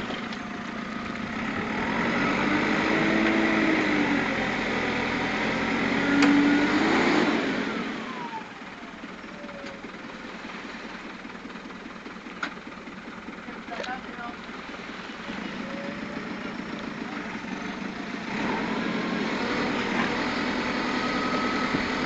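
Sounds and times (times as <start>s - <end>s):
diesel engine revving under load: 0.0s - 22.0s.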